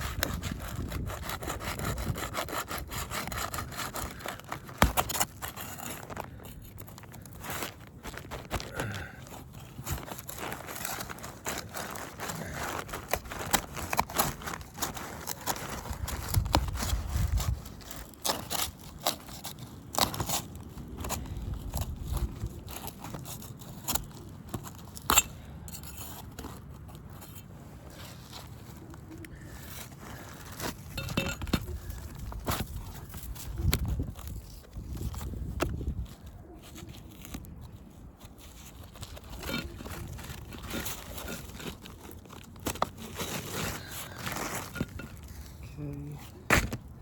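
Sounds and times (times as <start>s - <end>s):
roof shingles tearing and scraping: 0.0s - 25.2s, 25.8s - 47.0s.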